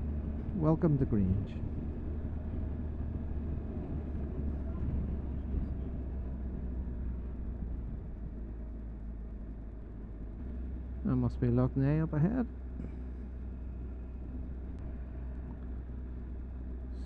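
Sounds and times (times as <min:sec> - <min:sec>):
motorcycle engine drone: 0:00.0 - 0:17.0
wind and road noise: 0:00.0 - 0:17.0.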